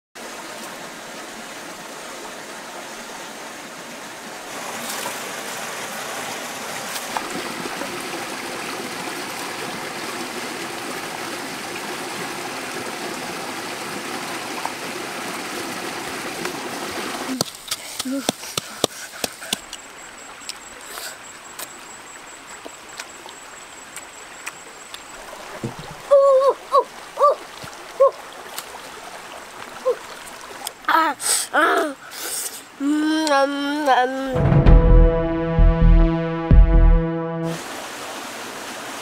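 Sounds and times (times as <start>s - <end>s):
stream flowing over rocks: 0.2s - 34.1s, 37.5s - 39.0s.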